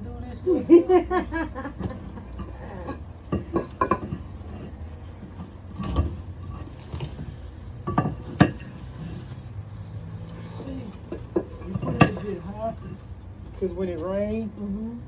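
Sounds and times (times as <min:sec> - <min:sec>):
concrete pavers knocking: 0:00.5 - 0:14.6.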